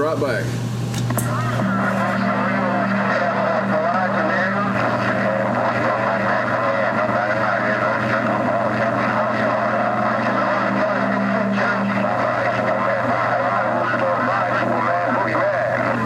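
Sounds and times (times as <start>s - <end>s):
garbled radio voices: 1.2s - 16.0s
radio carrier tones: 1.2s - 16.0s.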